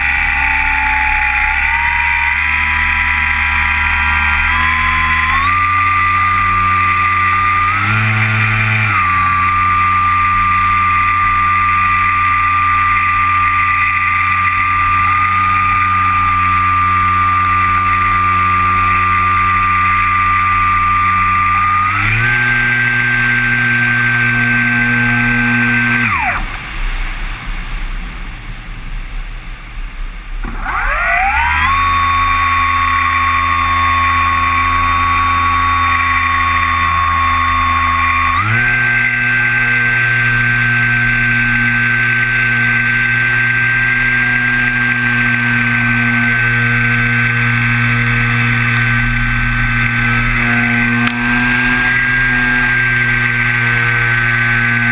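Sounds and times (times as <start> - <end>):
model plane motor drone: 0.0 - 27.0, 30.4 - 54.9.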